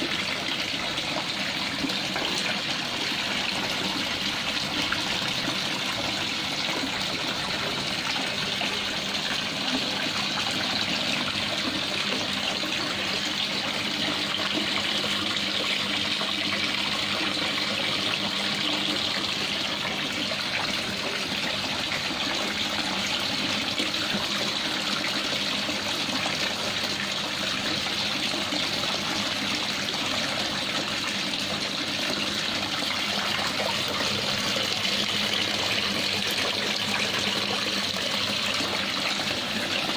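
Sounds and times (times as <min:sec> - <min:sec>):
water splashing into pond: 0:00.0 - 0:39.9.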